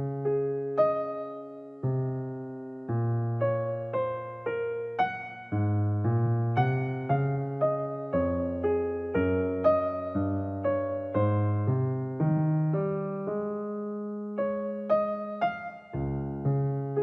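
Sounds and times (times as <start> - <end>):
piano-like keyboard music: 0.0 - 17.0.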